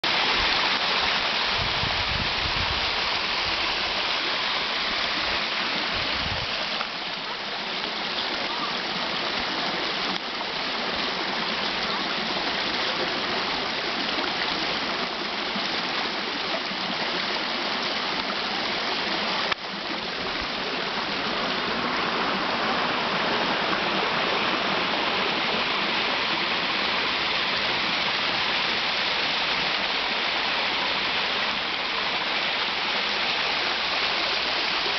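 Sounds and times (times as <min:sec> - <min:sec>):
waterfall and stream rushing: 0:00.0 - 0:34.9.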